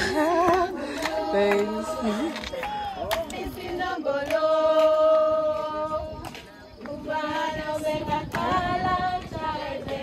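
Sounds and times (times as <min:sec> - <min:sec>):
women singing long held notes: 0:00.0 - 0:10.0.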